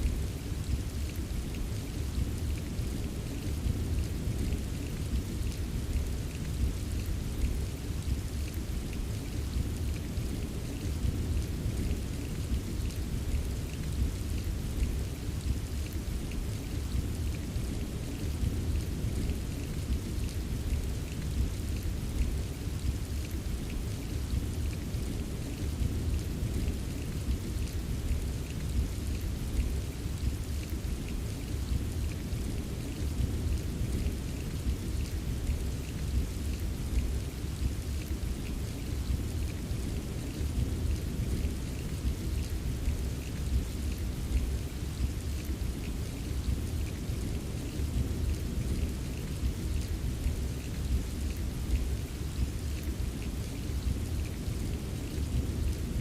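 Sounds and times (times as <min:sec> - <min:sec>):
rain rushing: 0:00.0 - 0:56.0.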